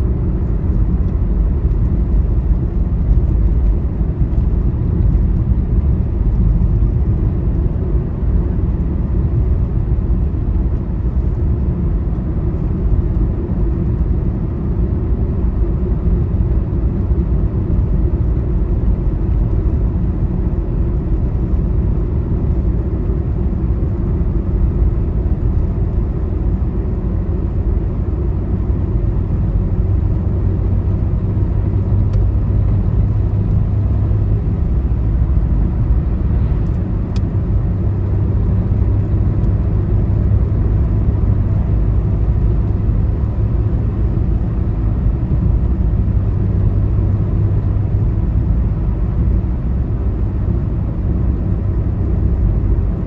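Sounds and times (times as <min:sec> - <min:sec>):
engine and tyre rumble: 0:00.0 - 0:53.0
low engine hum: 0:00.0 - 0:53.0.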